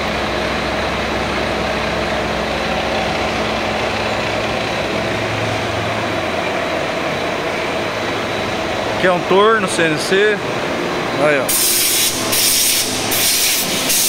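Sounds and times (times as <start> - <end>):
machinery mechanical drone: 0.0 - 14.0.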